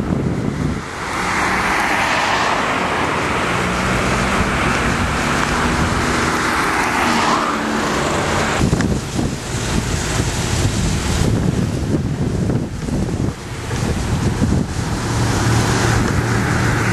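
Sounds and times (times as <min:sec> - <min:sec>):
road traffic rush: 0:00.0 - 0:16.9.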